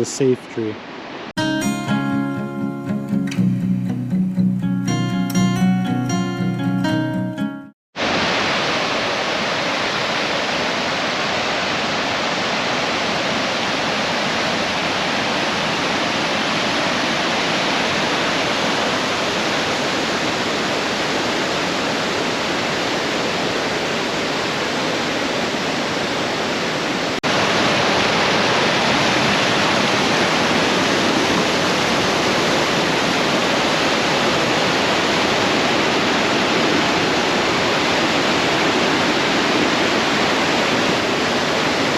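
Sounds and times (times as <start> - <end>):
waterfall rushing: 4.7 - 41.9.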